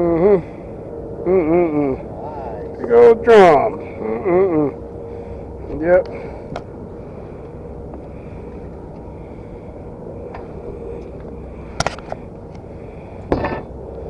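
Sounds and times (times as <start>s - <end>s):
boat motor rumble: 0.0s - 14.0s.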